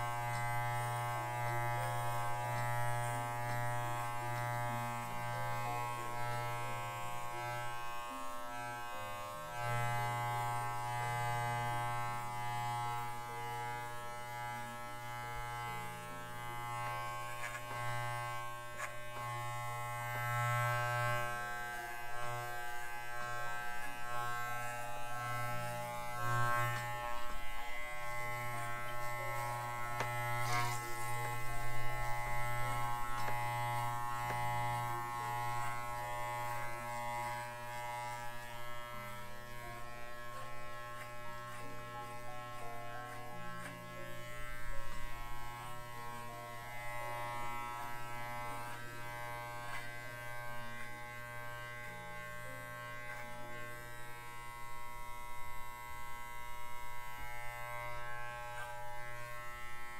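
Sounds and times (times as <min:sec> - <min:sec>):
electric clippers buzzing: 0:00.0 - 0:59.9.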